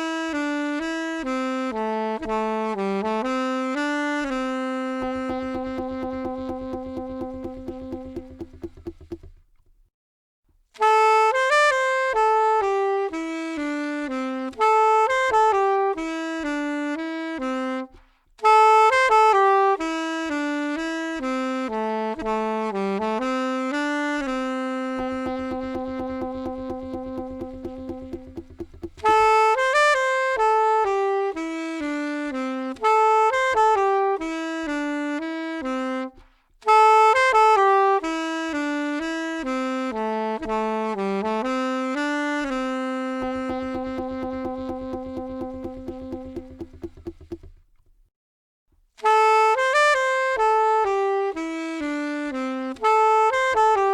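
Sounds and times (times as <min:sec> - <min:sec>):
solo saxophone melody: 0:00.0 - 0:09.7, 0:10.8 - 0:48.0, 0:49.0 - 0:53.9.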